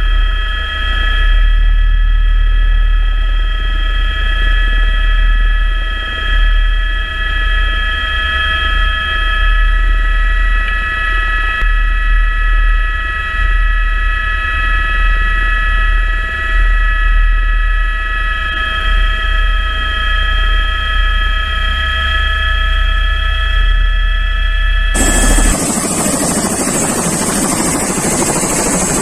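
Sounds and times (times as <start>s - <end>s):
helicopter rotor rumble: 0.0s - 29.0s
helicopter turbine whine: 0.0s - 29.0s.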